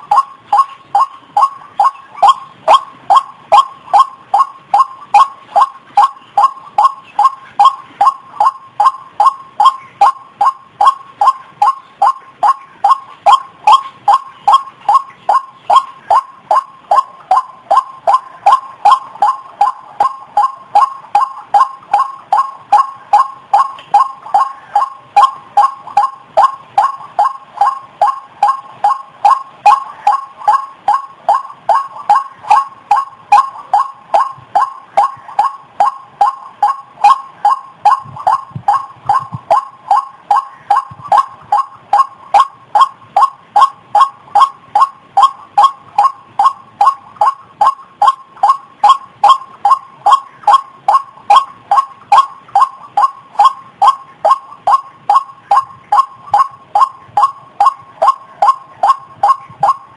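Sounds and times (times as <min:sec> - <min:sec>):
waterhen calling: 0:00.0 - 0:59.9.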